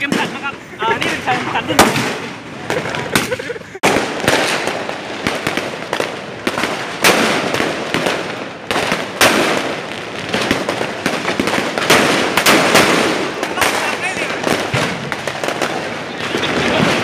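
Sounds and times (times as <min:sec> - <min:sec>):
fireworks and firecrackers crackling: 0:00.0 - 0:17.0.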